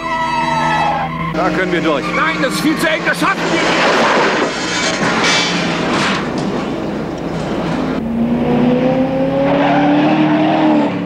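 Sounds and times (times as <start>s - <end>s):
car engine accelerating: 0.0s - 11.0s
road and tyre noise: 0.0s - 11.0s.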